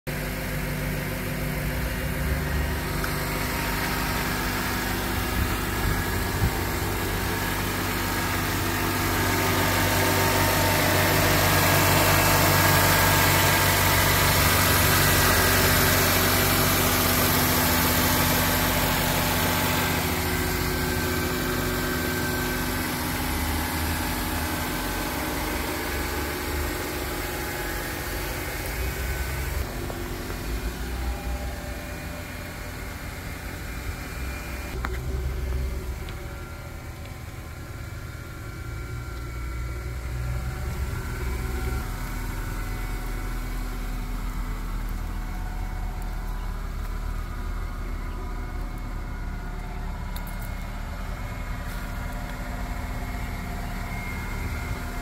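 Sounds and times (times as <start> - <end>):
car engine idling: 0.1 - 55.0.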